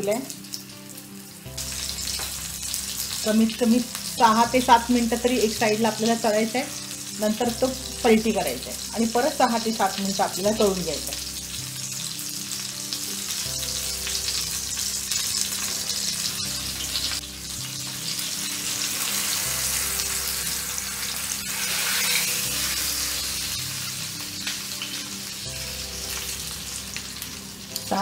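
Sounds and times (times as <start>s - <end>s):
oil sizzling in a skillet: 0.0s - 28.0s.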